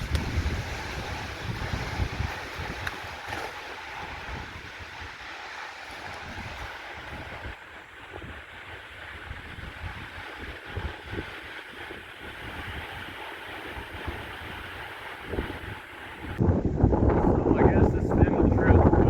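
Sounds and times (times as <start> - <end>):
steady rush of wind: 0.0 - 19.0
wind buffeting microphone: 0.0 - 19.0.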